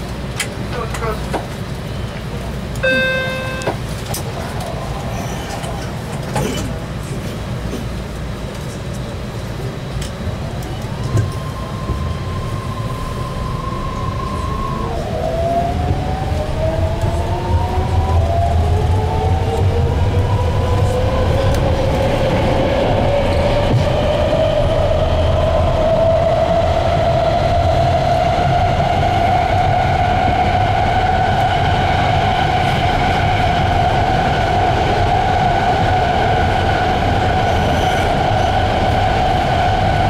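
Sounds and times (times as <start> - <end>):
train wheels rumbling: 0.0 - 40.0
train whine rising in pitch: 2.8 - 6.1, 10.3 - 40.0.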